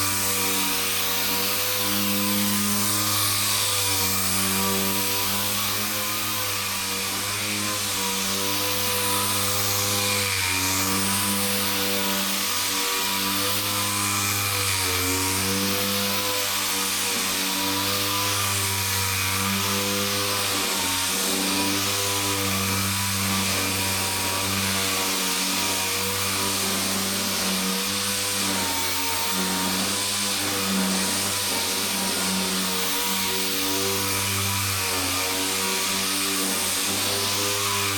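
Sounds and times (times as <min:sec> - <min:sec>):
orbital sander running: 0:00.0 - 0:37.9.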